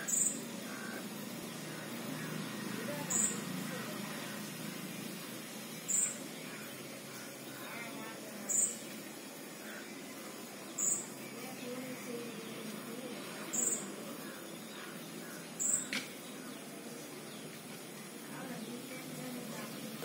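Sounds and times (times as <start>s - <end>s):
small bird chirping: 0.0s - 17.9s
steady background noise: 0.0s - 20.0s.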